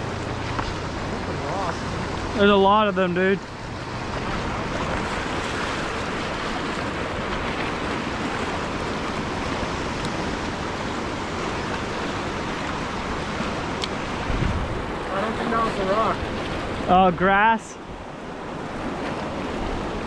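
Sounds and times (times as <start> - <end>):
fast-flowing river water: 0.0 - 20.0.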